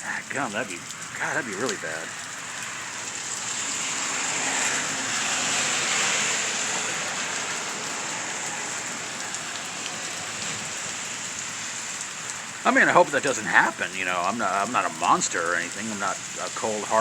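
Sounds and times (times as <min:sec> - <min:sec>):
rain splashing on surfaces: 0:00.0 - 0:17.0.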